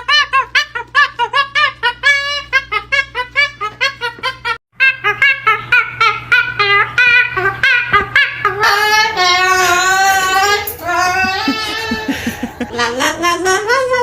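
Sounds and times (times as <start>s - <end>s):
cockatoo singing: 0.0s - 14.0s.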